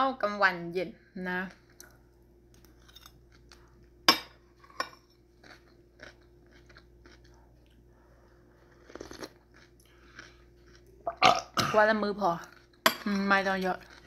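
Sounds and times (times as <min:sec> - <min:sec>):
chewing crunchy food: 0:01.5 - 0:11.6, 0:12.2 - 0:14.0.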